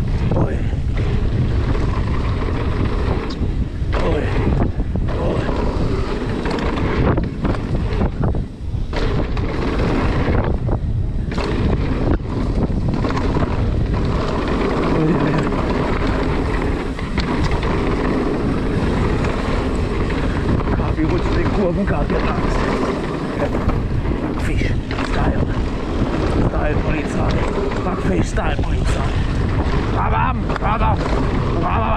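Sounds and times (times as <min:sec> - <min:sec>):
bike rattling on dirt trail: 0:00.0 - 0:31.9
wind rushing over microphone: 0:00.0 - 0:31.9.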